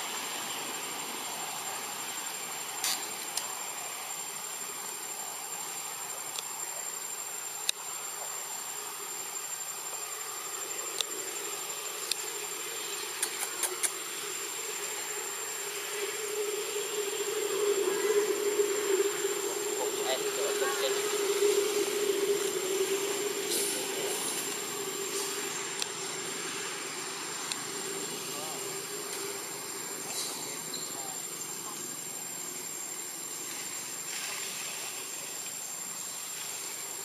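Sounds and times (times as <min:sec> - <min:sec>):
high-pitched insect whine: 0:00.0 - 0:37.0
outdoor hiss: 0:00.0 - 0:37.0.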